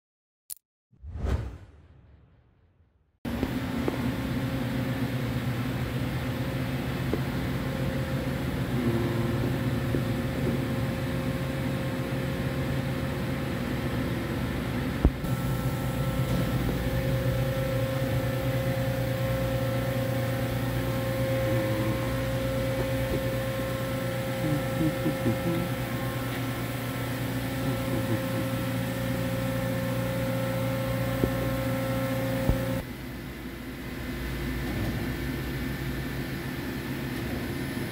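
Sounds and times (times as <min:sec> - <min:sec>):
machining center humming: 0:03.3 - 0:37.9.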